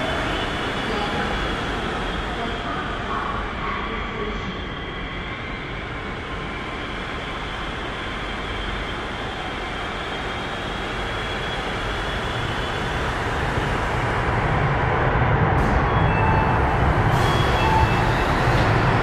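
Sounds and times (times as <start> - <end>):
electric train rumble: 0.0 - 19.0
train high whine: 0.0 - 19.0.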